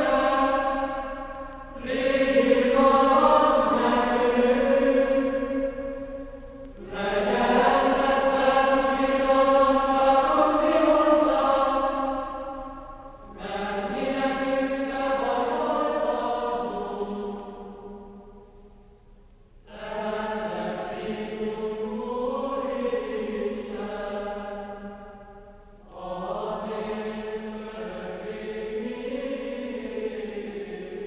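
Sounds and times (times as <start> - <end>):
choir singing a chant: 0.0 - 18.3, 19.7 - 31.0.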